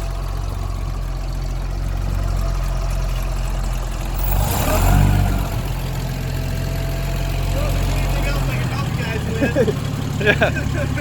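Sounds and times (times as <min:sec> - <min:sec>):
fire truck engine idling: 0:00.0 - 0:11.0.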